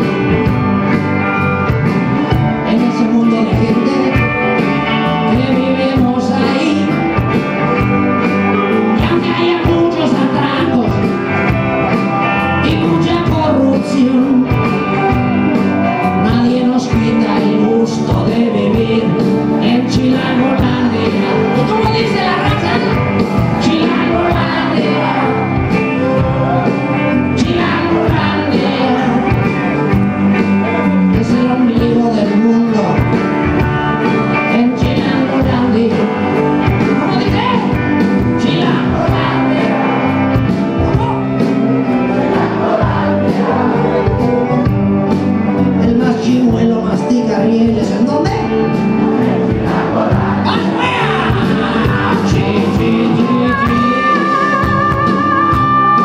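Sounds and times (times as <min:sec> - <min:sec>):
rock band playing: 0:00.0 - 0:56.0
person singing: 0:02.3 - 0:11.4, 0:12.2 - 0:41.5, 0:45.6 - 0:56.0.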